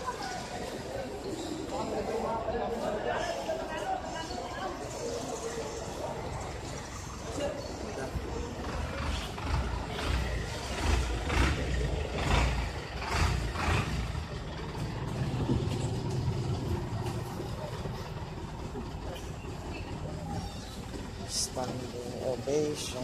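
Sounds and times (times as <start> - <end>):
bus engines idling: 0.0 - 23.0.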